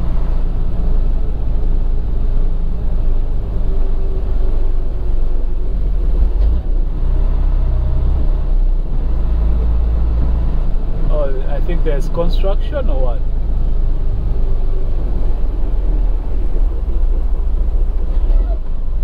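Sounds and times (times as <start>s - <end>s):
diesel engine rumble: 0.0s - 19.0s
road noise: 0.0s - 19.0s.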